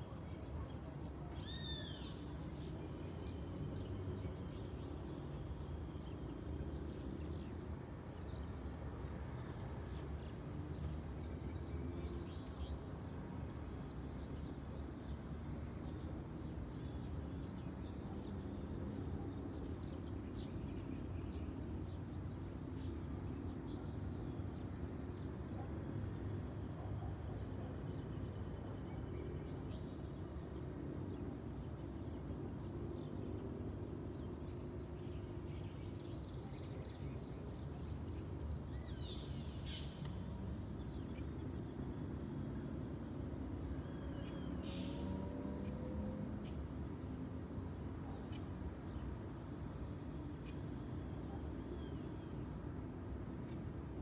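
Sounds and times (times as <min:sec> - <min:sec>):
distant traffic hum: 0:00.0 - 0:54.0.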